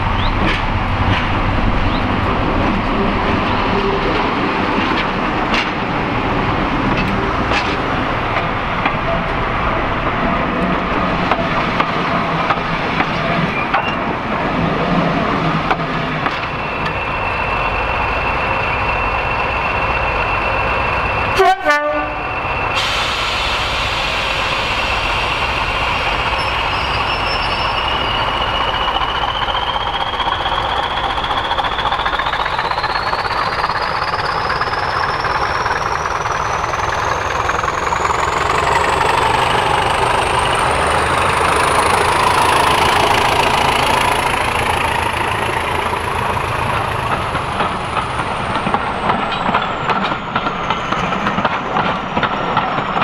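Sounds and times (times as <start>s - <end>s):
diesel locomotive engines running: 0.0s - 53.0s.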